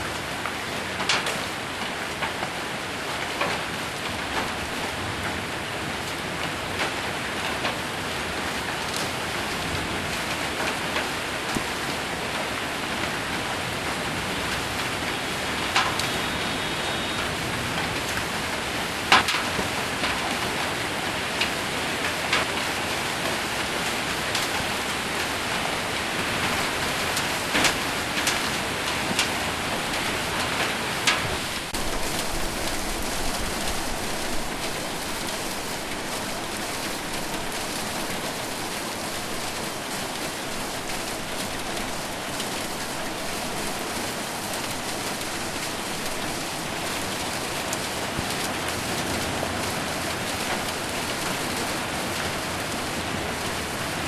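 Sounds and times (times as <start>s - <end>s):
rain and hail on metal roof: 0.0s - 54.0s.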